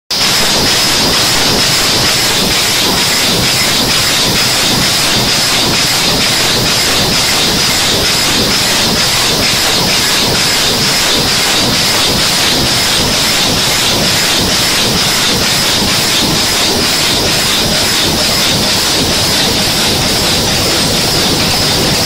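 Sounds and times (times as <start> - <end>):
packing machine clatter: 0.1 - 22.0.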